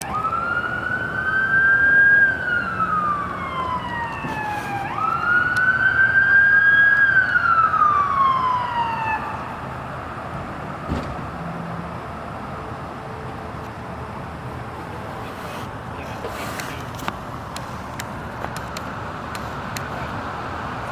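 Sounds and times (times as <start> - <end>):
road noise: 0.0 - 20.9.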